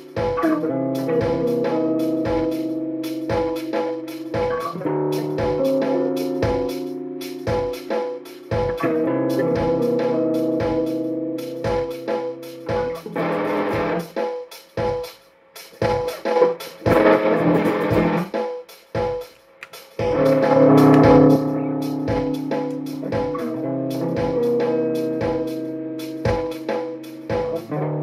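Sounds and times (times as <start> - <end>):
electric guitar strumming chords: 0.0 - 14.0, 15.8 - 18.3, 20.0 - 28.0
steady drum beat: 0.0 - 28.0.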